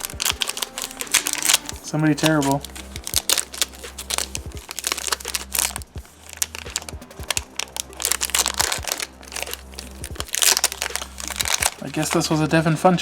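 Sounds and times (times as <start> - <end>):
card packaging crinkling: 0.0 - 13.0
sharp clicks and rustles: 0.0 - 13.0.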